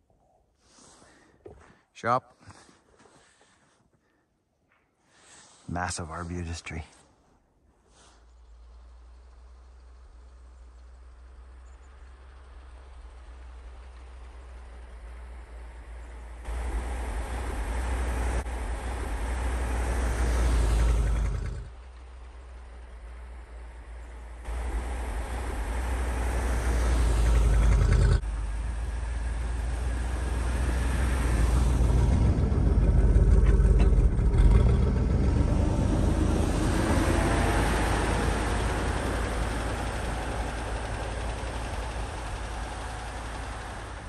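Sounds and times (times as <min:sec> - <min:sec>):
wheels churning snow: 0:07.8 - 0:44.0
truck engine revving: 0:08.6 - 0:44.0.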